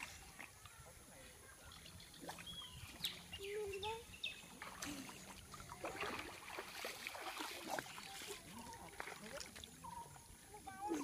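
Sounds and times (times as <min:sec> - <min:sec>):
water splashing from swimmers: 0:00.0 - 0:11.0.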